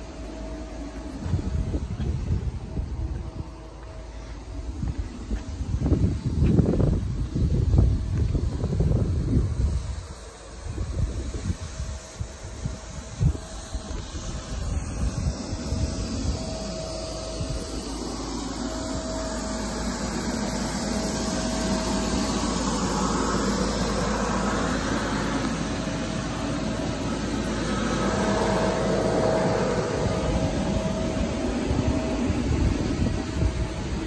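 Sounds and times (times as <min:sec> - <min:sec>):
faint steady hum: 0:00.0 - 0:34.0
inflation blower rushing air: 0:00.0 - 0:34.0.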